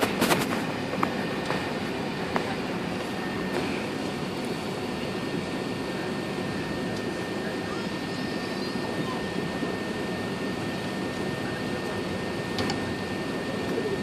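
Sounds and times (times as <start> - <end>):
jet engines and air conditioning rumble: 0.0 - 14.0.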